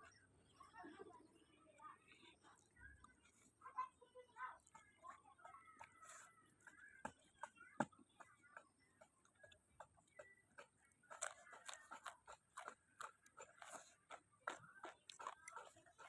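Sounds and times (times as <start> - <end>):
person chewing food: 1.9 - 3.6, 4.5 - 16.0.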